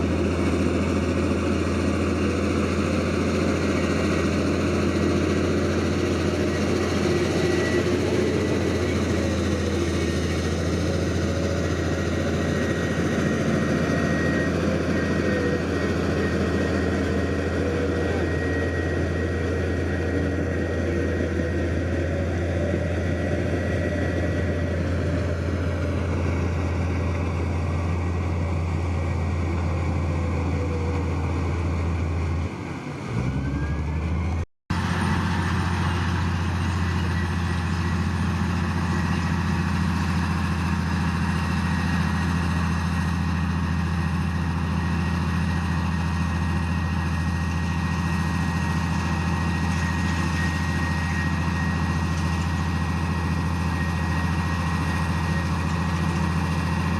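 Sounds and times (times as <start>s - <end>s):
heavy diesel machinery engine: 0.0s - 56.9s.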